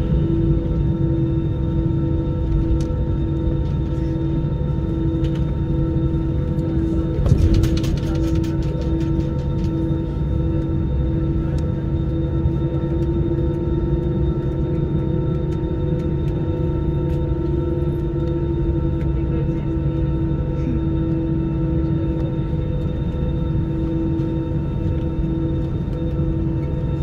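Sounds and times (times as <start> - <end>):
airplane cabin engine rumble: 0.0 - 27.0
steady whining tones: 0.0 - 27.0.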